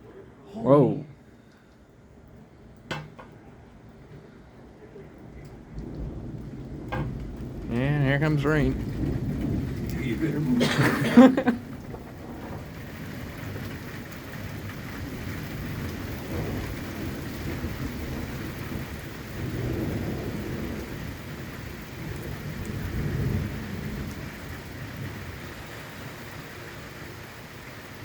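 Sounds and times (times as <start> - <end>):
rain falling: 0.0 - 28.0
thunder rumbling: 2.2 - 28.0.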